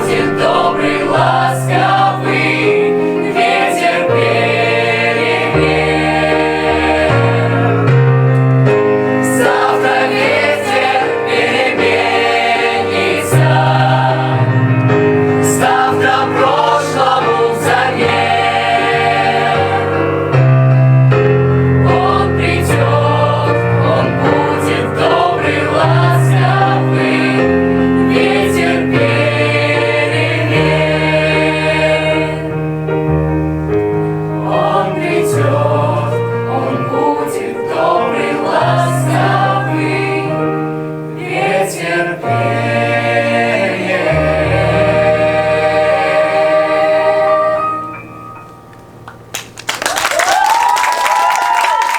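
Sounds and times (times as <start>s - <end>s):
vocal group singing in chorus: 0.0s - 20.8s, 21.5s - 32.8s, 33.8s - 48.2s
piano accompaniment: 0.0s - 51.9s.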